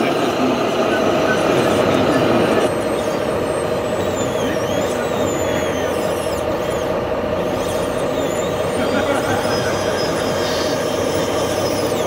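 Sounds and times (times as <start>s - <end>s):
hydraulic pump humming and whining: 0.0s - 12.0s.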